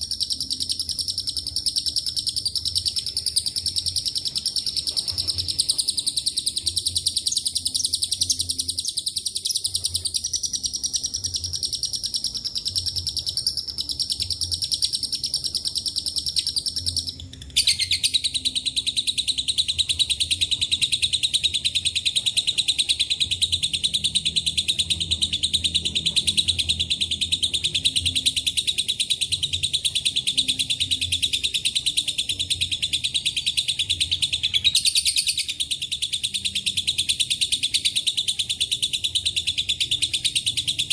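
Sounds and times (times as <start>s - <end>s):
lovebird trilling chatter: 0.0s - 40.9s.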